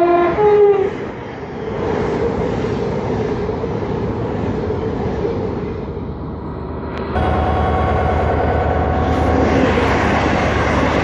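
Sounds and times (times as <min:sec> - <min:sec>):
train hum: 0:00.0 - 0:11.0
train rumble and rail noise: 0:00.0 - 0:11.0.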